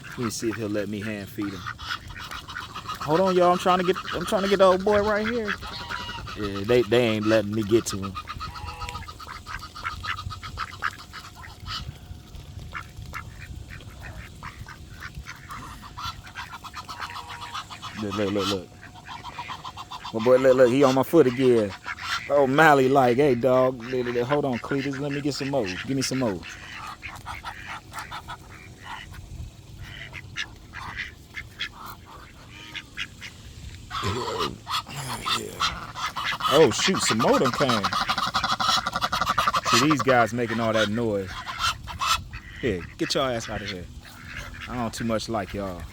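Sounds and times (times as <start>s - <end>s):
ducks quacking: 0.0s - 45.9s.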